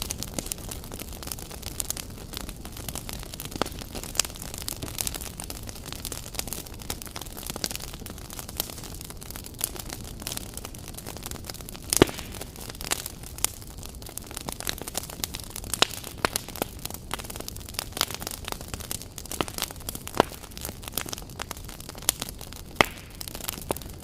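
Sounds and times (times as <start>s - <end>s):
low steady fire hiss: 0.0s - 24.0s
wood fire crackling and popping: 0.0s - 24.0s.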